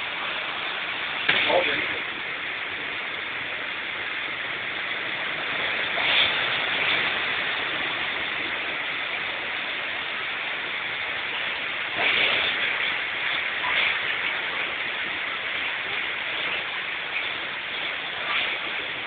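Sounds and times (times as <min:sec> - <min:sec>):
floodwater running over street: 0:00.0 - 0:19.0
heavy rain hissing: 0:00.0 - 0:19.0.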